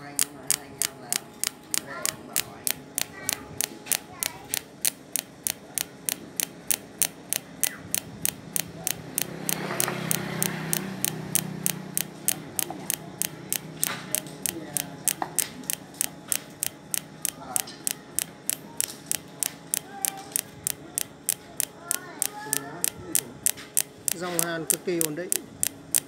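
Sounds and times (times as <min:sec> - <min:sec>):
pulse welder clicking: 0:00.0 - 0:26.0.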